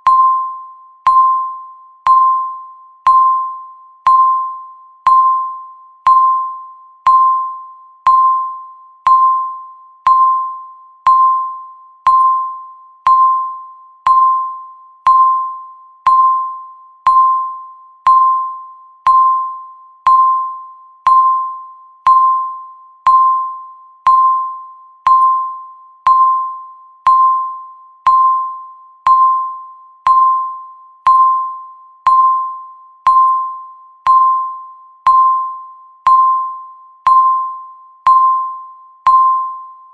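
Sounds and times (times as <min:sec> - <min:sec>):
electronic timer ping: 0:00.0 - 0:39.9.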